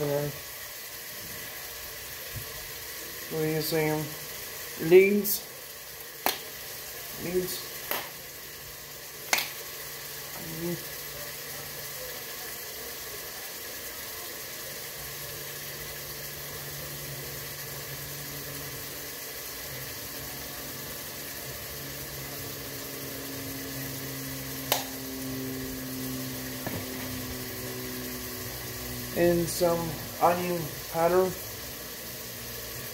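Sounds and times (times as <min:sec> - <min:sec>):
steaming pot hissing: 0:00.0 - 0:32.9.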